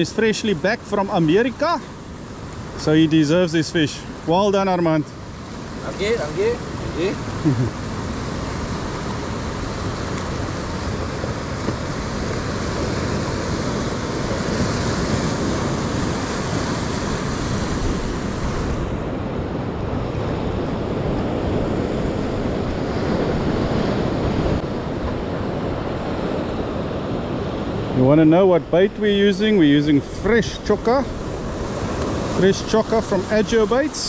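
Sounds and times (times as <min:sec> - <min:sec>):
surf breaking on rocky shore: 0:00.0 - 0:34.0
wind buffeting microphone: 0:00.8 - 0:34.0.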